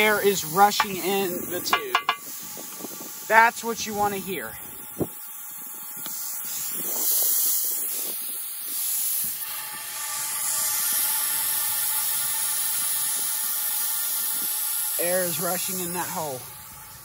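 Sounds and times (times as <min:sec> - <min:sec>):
air hissing into tube: 0:00.0 - 0:03.4, 0:04.4 - 0:17.0.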